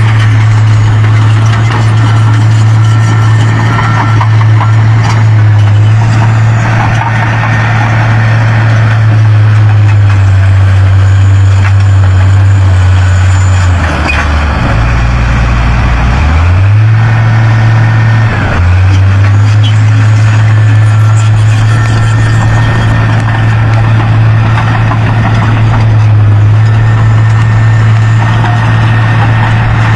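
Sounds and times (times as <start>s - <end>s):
heavy diesel engine droning: 0.0s - 29.9s.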